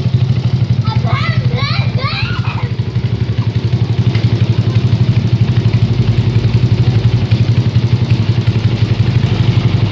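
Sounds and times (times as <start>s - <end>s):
motorcycle engine idling: 0.0s - 9.9s.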